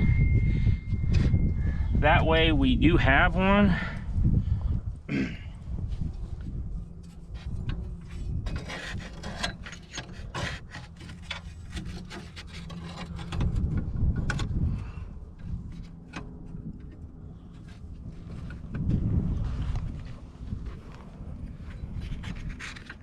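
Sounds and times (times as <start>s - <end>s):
low rumble: 0.0s - 9.2s, 12.8s - 22.7s.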